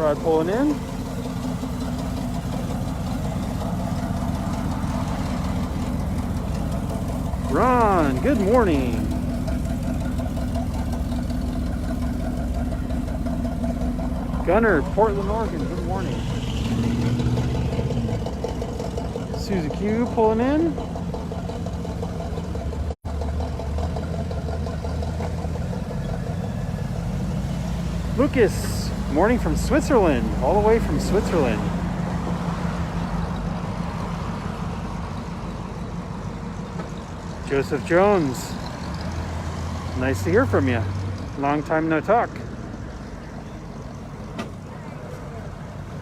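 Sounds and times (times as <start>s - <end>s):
car engine pulsing exhaust: 0.0s - 46.0s.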